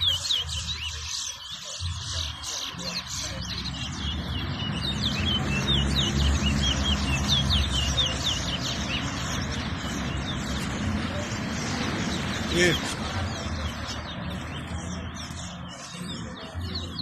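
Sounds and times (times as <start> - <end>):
finch whistled chirps: 0.0 - 17.0.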